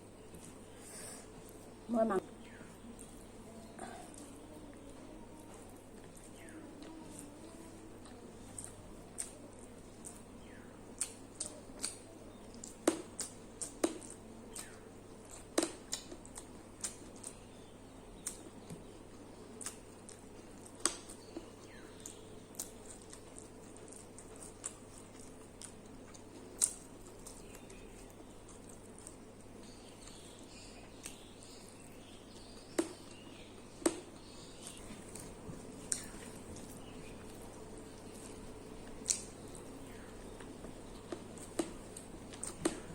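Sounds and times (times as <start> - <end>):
person chewing food: 0.0 - 1.8, 2.4 - 42.9.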